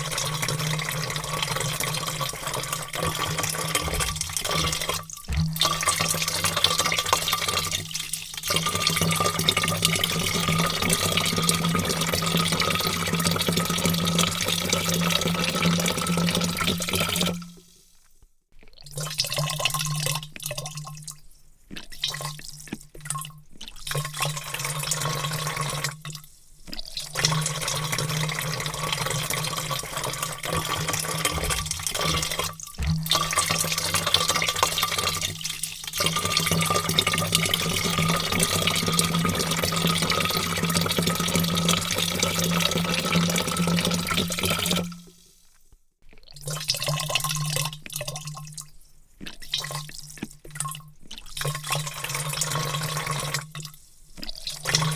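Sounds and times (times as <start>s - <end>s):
water pouring into a vat: 0.0s - 54.9s.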